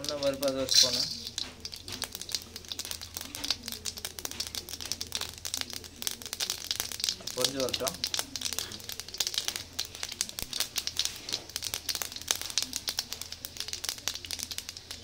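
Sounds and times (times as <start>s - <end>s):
seeds spluttering in hot oil: 0.0s - 15.0s.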